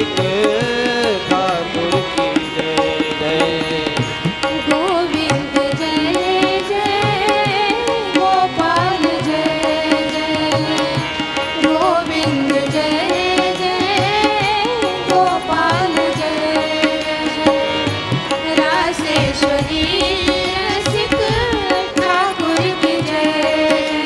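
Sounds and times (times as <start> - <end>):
tabla beat: 0.0 - 24.0
wavering instrumental melody: 0.0 - 24.0.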